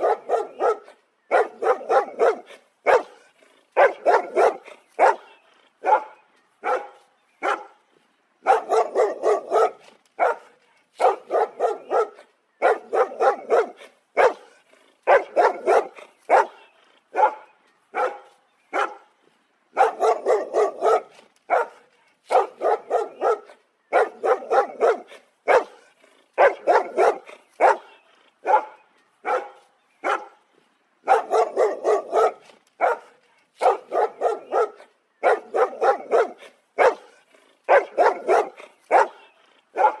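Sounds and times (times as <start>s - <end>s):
dog barking: 0.0s - 3.2s, 3.8s - 7.8s, 8.4s - 19.1s, 19.8s - 25.8s, 26.4s - 30.4s, 31.0s - 40.0s.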